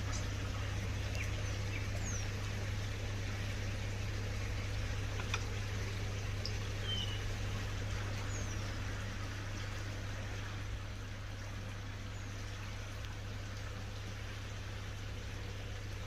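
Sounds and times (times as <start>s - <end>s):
low steady hum: 0.0s - 16.0s
pond water running and splashing: 0.0s - 16.0s.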